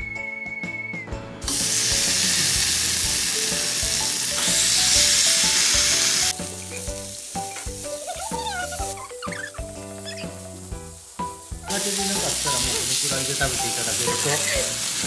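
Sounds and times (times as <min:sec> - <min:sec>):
background music: 0:00.0 - 0:15.0
meat sizzling on a grill: 0:01.4 - 0:15.0.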